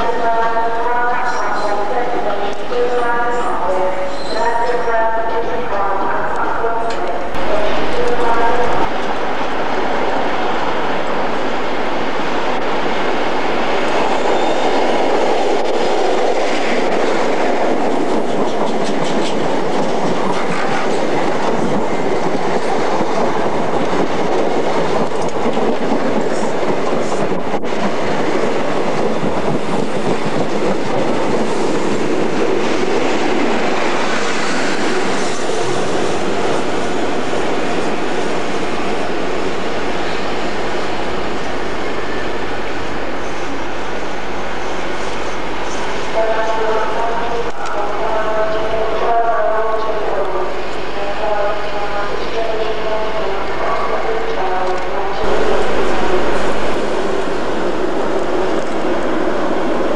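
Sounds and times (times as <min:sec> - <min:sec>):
train passing close by: 0:00.0 - 0:59.9.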